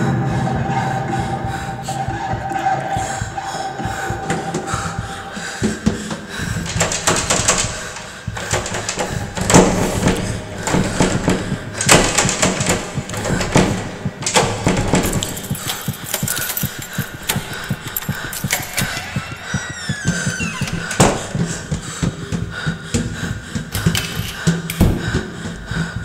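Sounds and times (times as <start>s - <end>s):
dense clicking and knocking: 3.8s - 26.0s.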